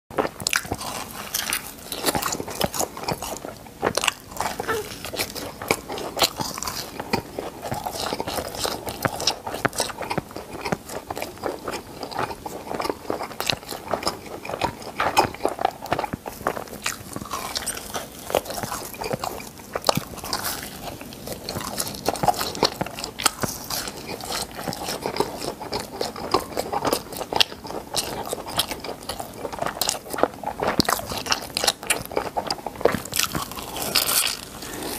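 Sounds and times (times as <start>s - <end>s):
chewing crispy food crunches: 0.2s - 34.9s.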